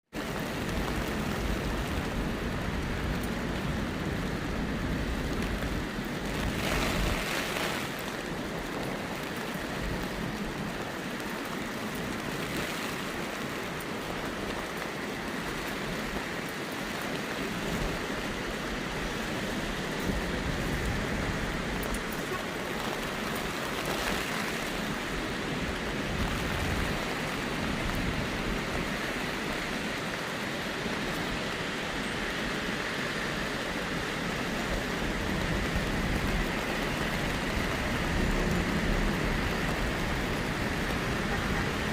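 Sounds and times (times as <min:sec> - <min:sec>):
heavy rain pouring: 0:00.1 - 0:41.9.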